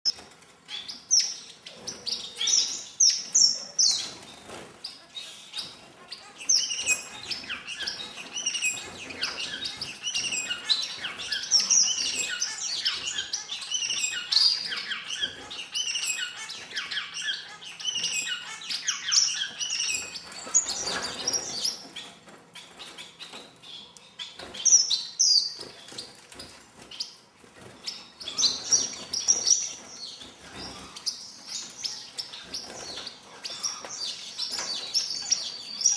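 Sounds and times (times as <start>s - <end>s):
finches chirping: 0.1s - 35.9s.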